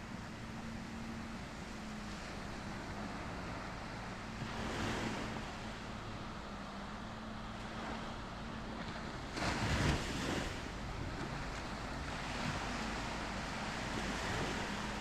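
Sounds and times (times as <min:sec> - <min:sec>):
waves breaking on sandy beach: 0:00.0 - 0:15.0.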